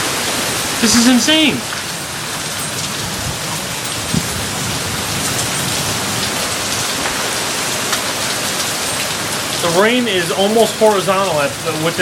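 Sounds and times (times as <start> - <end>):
gusting wind: 0.0 - 11.0
heavy rain pouring: 0.0 - 12.0.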